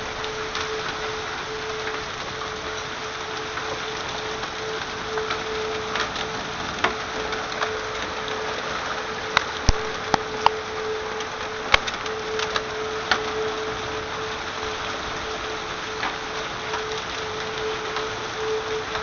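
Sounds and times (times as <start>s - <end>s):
rain: 0.0s - 19.0s
steady hum: 0.0s - 19.0s
wind: 0.0s - 19.0s.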